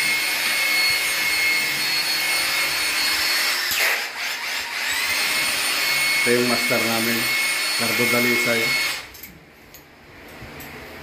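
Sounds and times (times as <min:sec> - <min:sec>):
electric drill boring into tile: 0:00.0 - 0:09.1.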